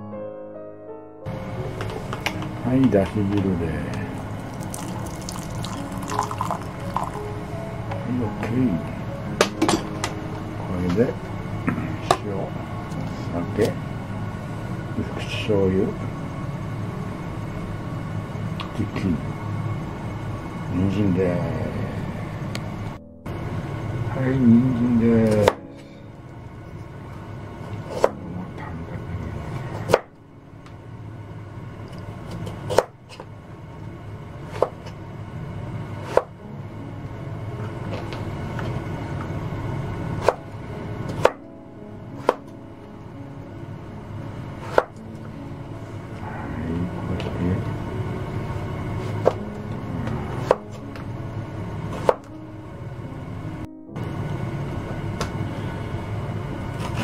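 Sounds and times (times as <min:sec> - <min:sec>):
steady low background noise: 0:00.0 - 0:57.0.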